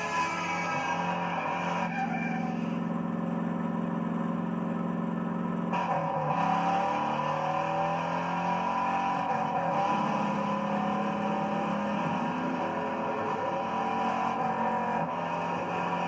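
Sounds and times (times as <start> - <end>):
car engines accelerating: 0.0 - 16.0.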